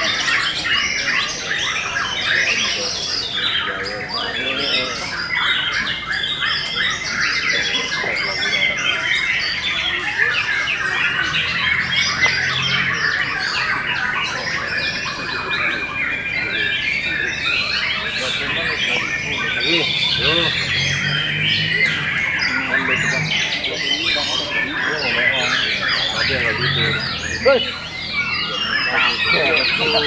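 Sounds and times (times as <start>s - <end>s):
canaries singing: 0.0s - 30.0s.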